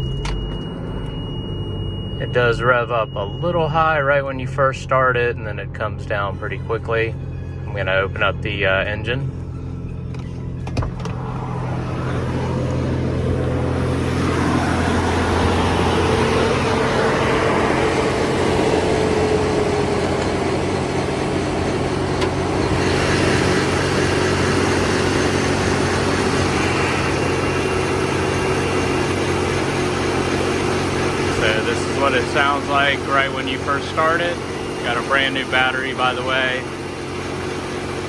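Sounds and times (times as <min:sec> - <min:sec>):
car engine idling: 0:00.0 - 0:38.0
engine whine: 0:00.0 - 0:38.0.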